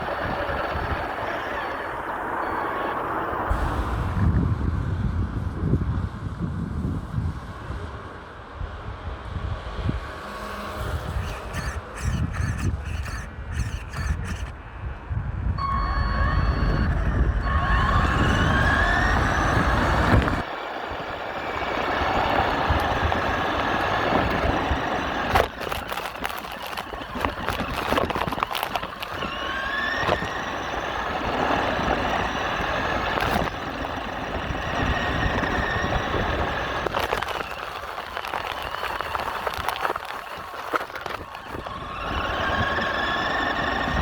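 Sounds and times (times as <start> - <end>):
small electric motor whining: 0.0 - 3.8, 9.4 - 15.0, 15.6 - 44.0
gear and tyre noise: 0.0 - 44.0.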